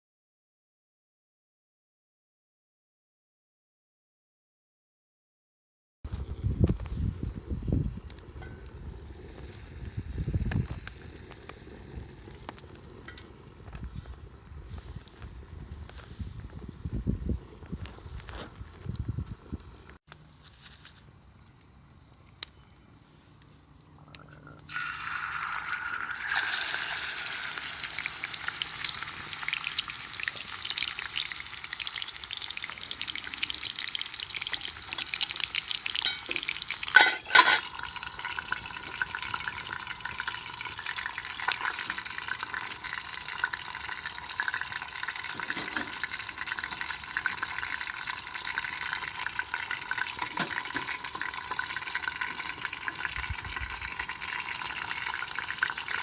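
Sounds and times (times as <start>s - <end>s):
food sizzling over campfire: 6.1s - 56.0s.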